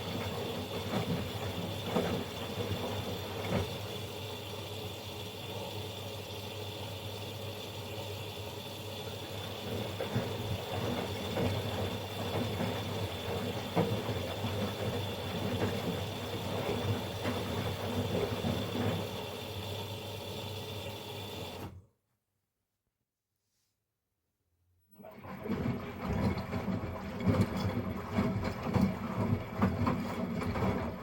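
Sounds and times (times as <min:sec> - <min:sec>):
washing machine motor hum: 0:00.0 - 0:21.9, 0:25.0 - 0:31.0.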